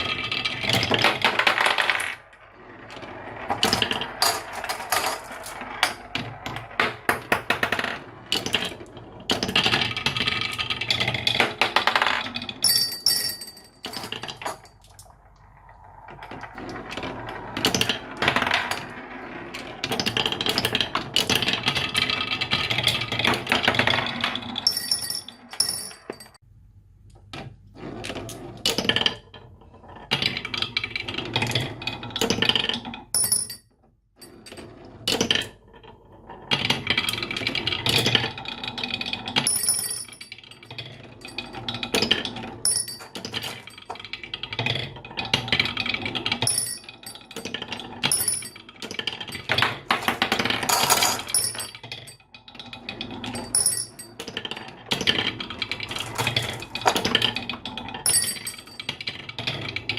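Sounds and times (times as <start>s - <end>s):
marbles clattering down track: 0.0s - 26.4s, 36.4s - 59.9s.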